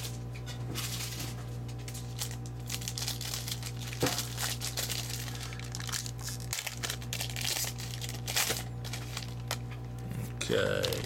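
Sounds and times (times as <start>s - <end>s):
plastic wrapper crinkling: 0.7s - 9.8s, 10.7s - 11.0s.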